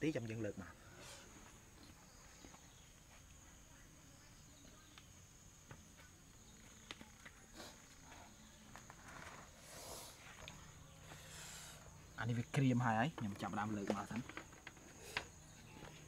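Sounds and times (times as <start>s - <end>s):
faint ticks and crackles: 0.1s - 16.0s.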